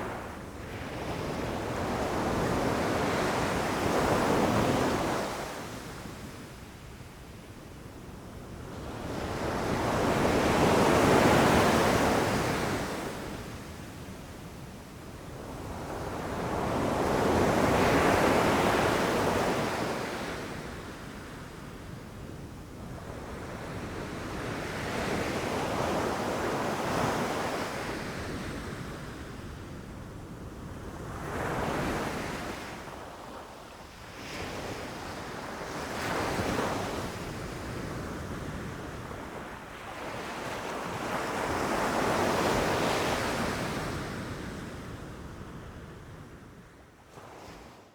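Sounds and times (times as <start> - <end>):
wind: 0.0 - 47.9.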